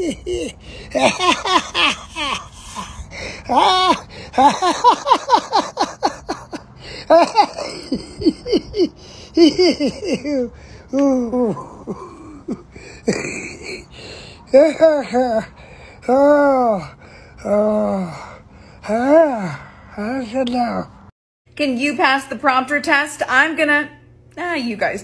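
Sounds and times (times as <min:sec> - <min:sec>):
man laughing hard: 0:00.0 - 0:20.4.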